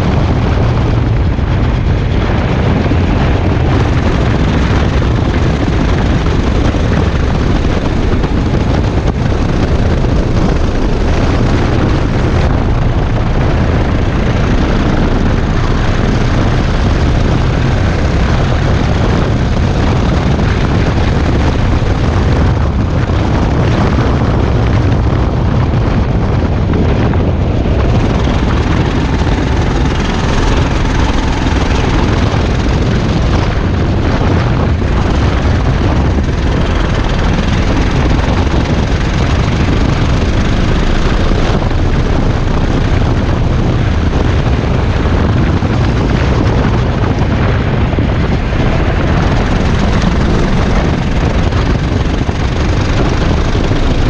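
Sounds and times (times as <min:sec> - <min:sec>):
go-kart engine running hard: 0:00.0 - 0:54.0.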